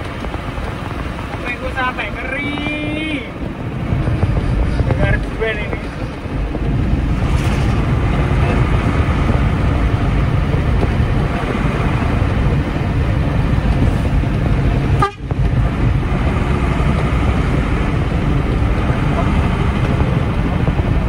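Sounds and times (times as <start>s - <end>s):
truck diesel engine rumbling: 0.0s - 21.0s.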